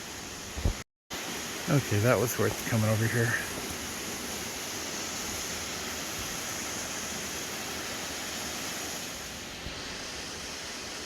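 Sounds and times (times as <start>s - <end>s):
waterfall pouring into pool: 1.2s - 11.0s.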